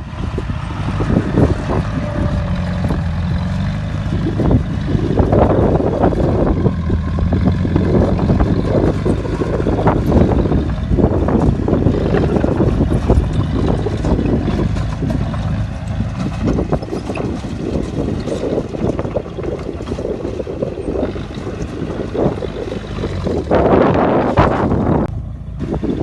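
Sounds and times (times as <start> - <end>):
bulldozer clatter: 0.0 - 26.0
bulldozer diesel engine: 0.0 - 26.0.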